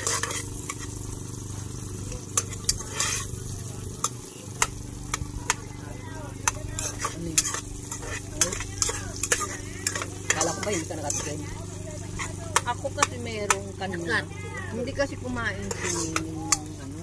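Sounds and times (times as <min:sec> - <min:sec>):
garlic sizzling: 0:00.0 - 0:17.0.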